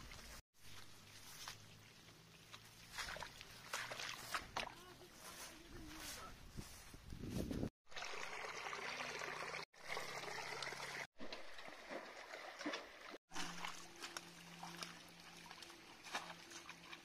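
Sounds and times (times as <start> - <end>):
shallow water trickling and splashing: 0.1 - 6.2, 7.9 - 17.0.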